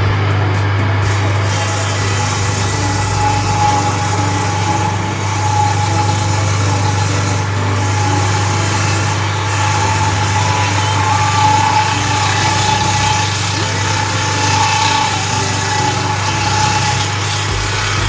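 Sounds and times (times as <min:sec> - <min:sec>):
power carving tool motor hum: 0:01.0 - 0:18.0.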